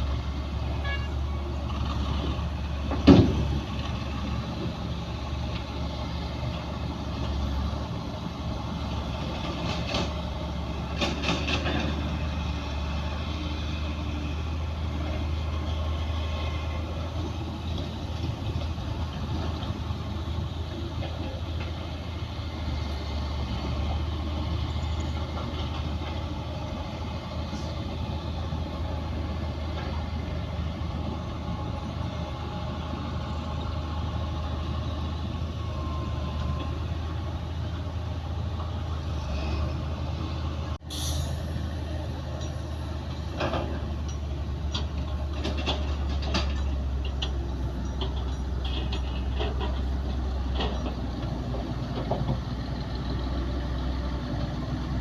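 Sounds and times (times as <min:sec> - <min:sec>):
earthmoving machinery engine hum: 0:00.0 - 0:55.0.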